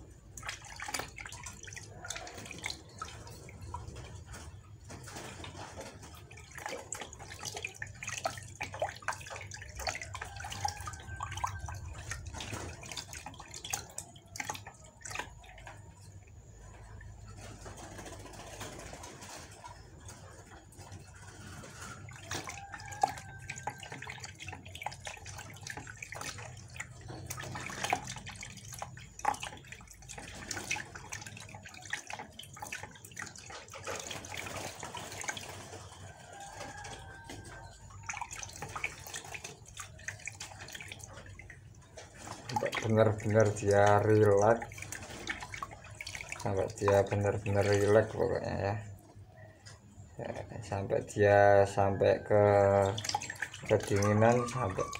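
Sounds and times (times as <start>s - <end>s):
water splashing in a basin: 0.0s - 54.9s.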